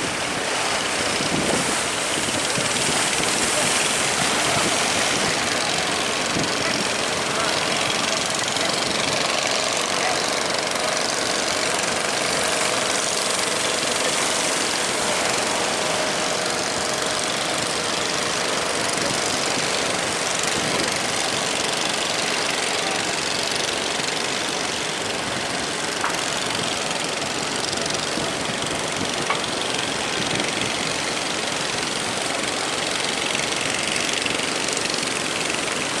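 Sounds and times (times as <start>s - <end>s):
ship engine running: 0.0s - 36.0s
wind and sea noise: 0.0s - 36.0s.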